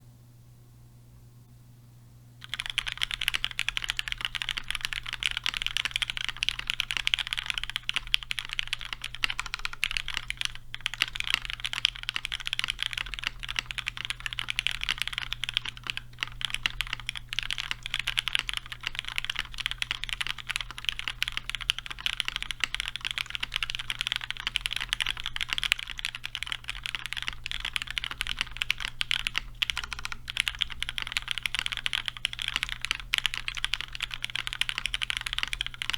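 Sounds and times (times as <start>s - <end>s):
faint low hum: 0.0s - 35.9s
fast typing on mechanical keyboard: 2.4s - 35.9s.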